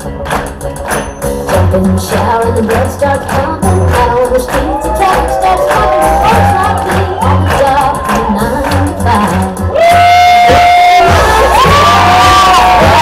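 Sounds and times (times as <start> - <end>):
singing over a steady beat: 1.4 - 13.0.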